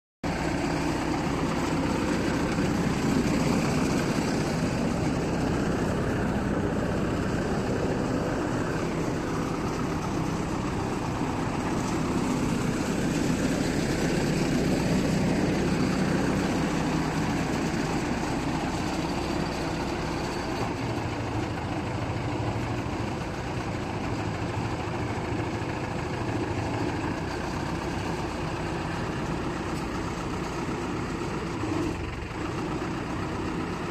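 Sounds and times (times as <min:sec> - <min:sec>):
diesel engine running steadily: 0:00.2 - 0:33.9.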